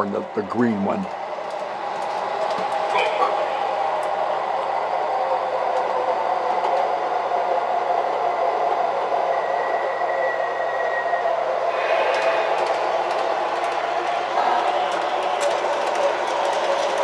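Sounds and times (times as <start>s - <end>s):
model trains whirring on track: 0.0s - 17.0s.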